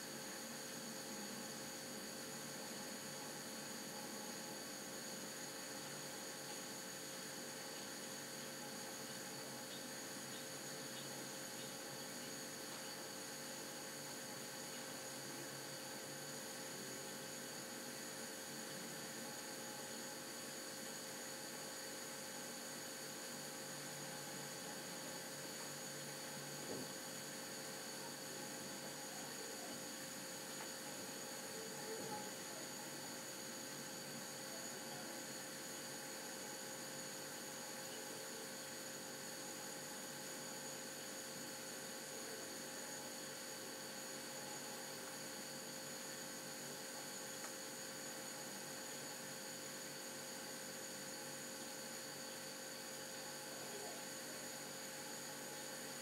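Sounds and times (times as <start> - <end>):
electrical hum and hiss: 0.0 - 56.0
faint high-pitched whines: 0.0 - 56.0.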